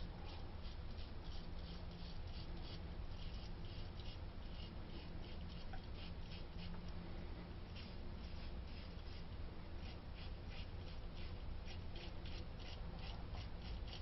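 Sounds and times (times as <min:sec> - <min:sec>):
low steady hum: 0:00.0 - 0:14.0
razor scraping stubble: 0:00.2 - 0:06.9, 0:07.7 - 0:14.0.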